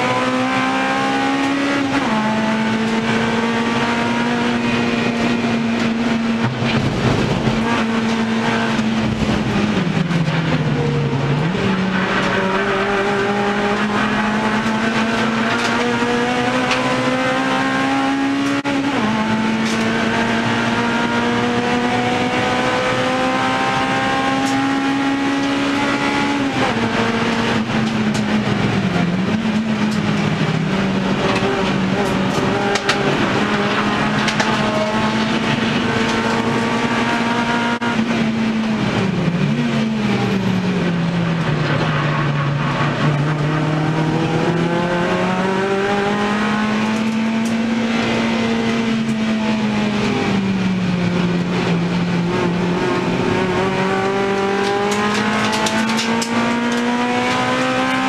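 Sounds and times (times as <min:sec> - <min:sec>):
race car engine revving: 0:00.0 - 0:58.0
road and tyre noise: 0:00.0 - 0:58.0.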